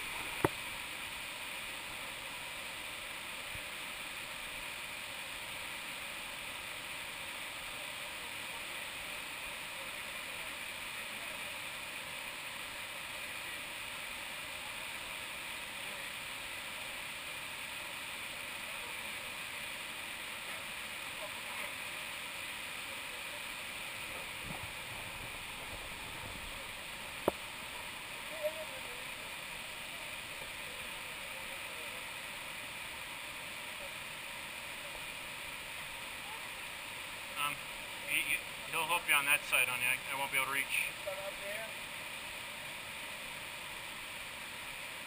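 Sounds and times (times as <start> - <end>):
river water rushing over rocks: 0.0 - 45.0.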